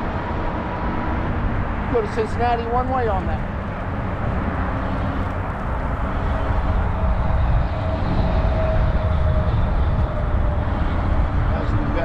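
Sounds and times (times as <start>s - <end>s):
bike rumble on trail: 0.0s - 12.0s
wind rushing over microphone: 0.0s - 12.0s.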